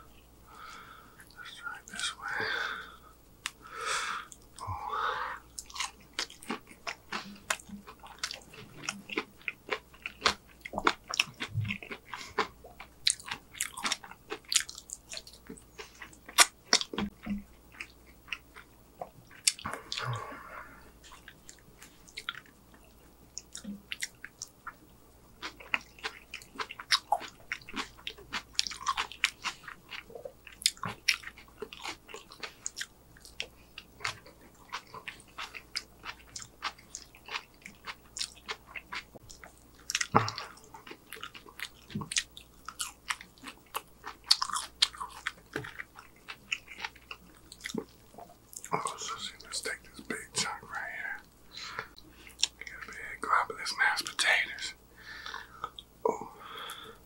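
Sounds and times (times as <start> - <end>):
chewing and crunching: 5.5 - 57.0.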